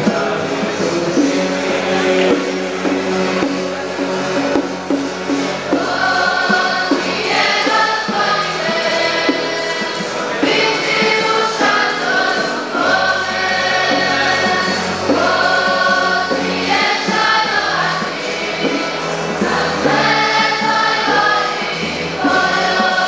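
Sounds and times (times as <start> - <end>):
choir singing: 0.0 - 23.0
guitar accompaniment: 0.0 - 23.0.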